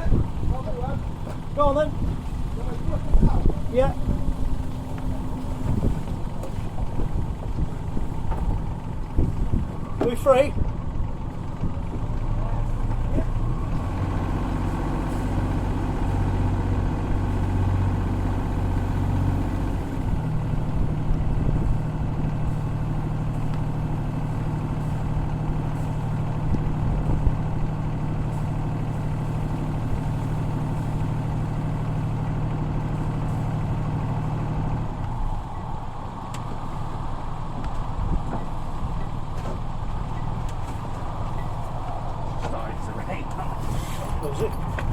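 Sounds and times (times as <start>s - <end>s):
boat inboard engine running: 0.0s - 44.9s.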